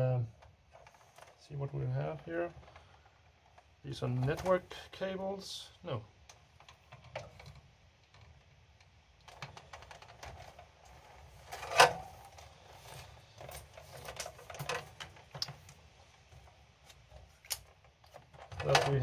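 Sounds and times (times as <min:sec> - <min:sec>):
wires rustling against metal: 0:00.0 - 0:04.9, 0:06.3 - 0:19.0.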